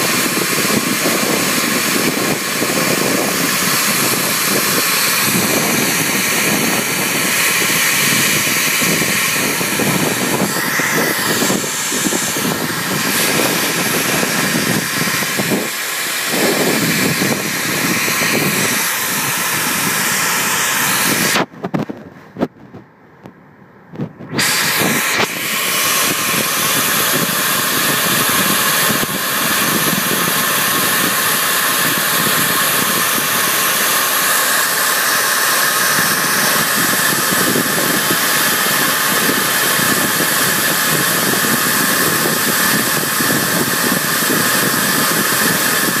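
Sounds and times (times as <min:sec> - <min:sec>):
air rushing through duct: 0:00.0 - 0:46.0.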